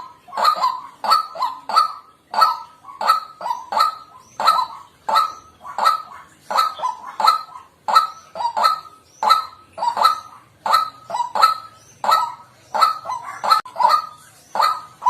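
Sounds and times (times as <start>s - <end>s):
waterhen harsh kwak calls: 0.0s - 15.0s.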